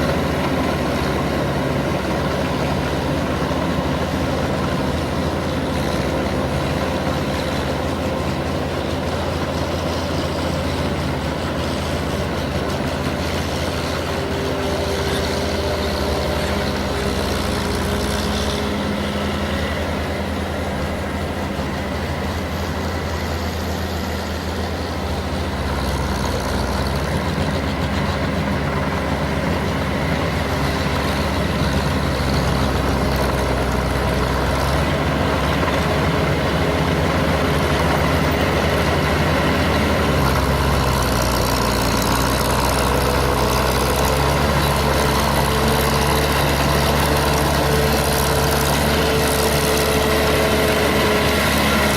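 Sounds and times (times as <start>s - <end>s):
ploughing machine engine humming: 0.0s - 51.9s.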